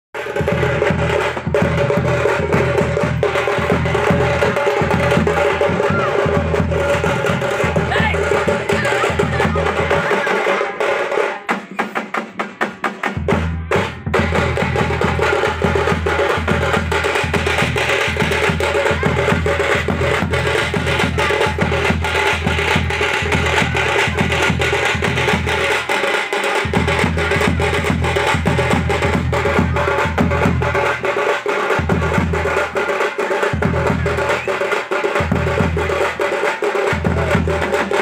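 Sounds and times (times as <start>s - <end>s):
driving drum music: 0.2s - 38.0s
fast sharp drum strokes: 0.2s - 38.0s.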